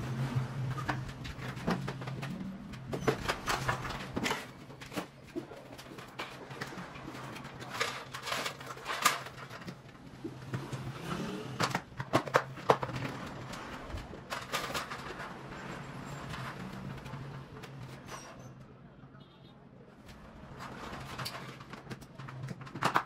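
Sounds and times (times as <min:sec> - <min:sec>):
cable clicking and rustling: 0:00.2 - 0:18.4, 0:20.0 - 0:23.0.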